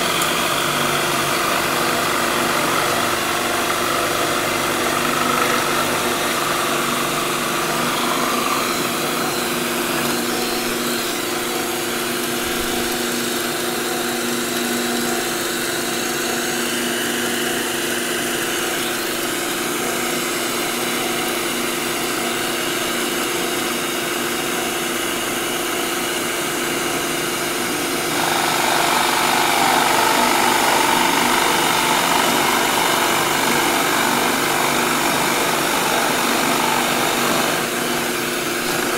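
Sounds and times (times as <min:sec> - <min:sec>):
drill press humming: 0:00.0 - 0:38.9
shop vacuum rushing: 0:00.0 - 0:38.9.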